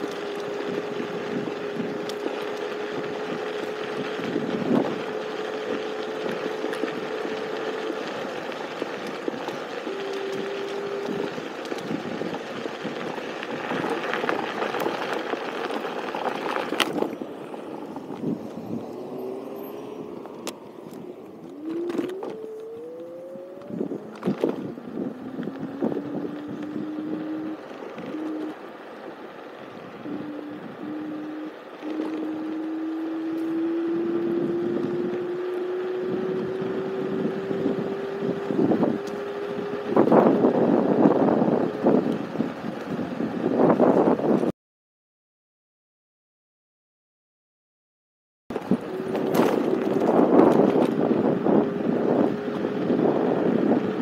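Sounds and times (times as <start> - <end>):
wind on microphone: 0.0 - 28.8, 29.8 - 44.5, 48.5 - 54.0
electric scooter motor whining: 0.0 - 44.5, 48.6 - 54.0.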